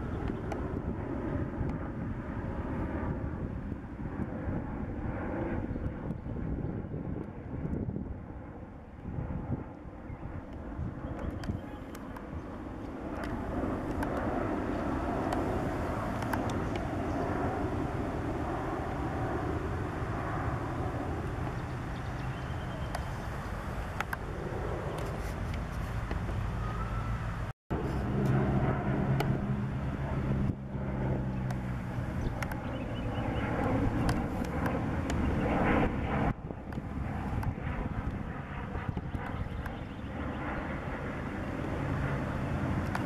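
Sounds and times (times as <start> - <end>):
jet airliner passing overhead: 0.0 - 43.0
turboprop propeller drone: 0.0 - 43.0.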